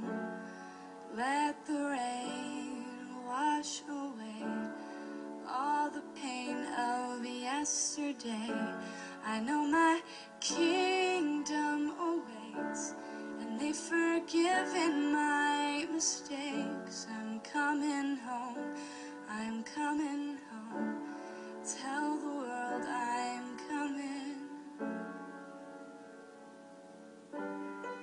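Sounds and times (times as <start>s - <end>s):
woman singing song: 1.1s - 25.1s.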